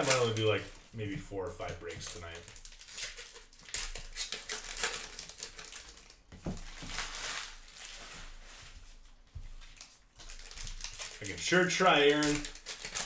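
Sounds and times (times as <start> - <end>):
cards clicking and rustling: 0.0 - 8.0, 9.6 - 13.0.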